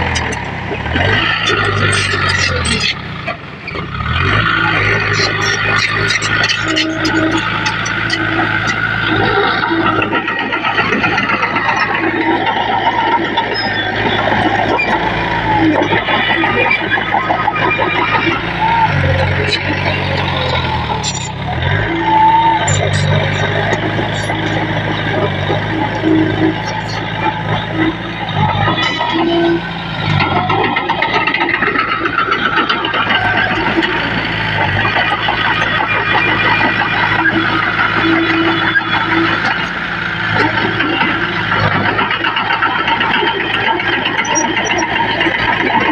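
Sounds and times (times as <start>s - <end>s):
diesel engine running: 0.0s - 45.9s
machinery rattling: 0.0s - 45.9s
metallic clatter and squeaks: 0.0s - 45.9s.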